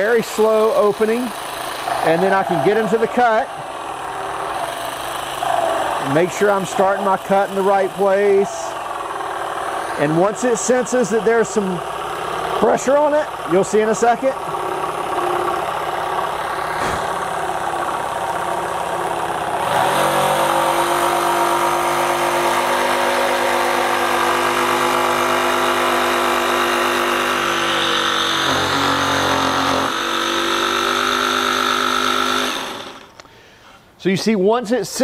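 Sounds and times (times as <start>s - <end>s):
jigsaw cutting wood: 0.0s - 33.2s.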